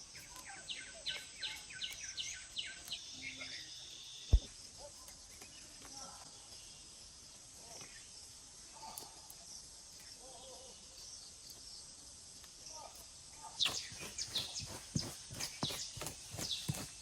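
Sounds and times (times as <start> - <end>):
faint chirps: 0.0 - 16.9
insects droning: 0.0 - 17.0.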